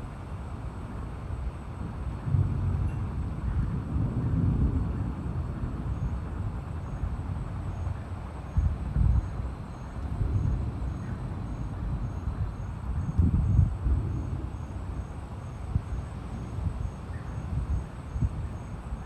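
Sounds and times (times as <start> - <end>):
wind gusting on microphone: 0.0 - 19.0.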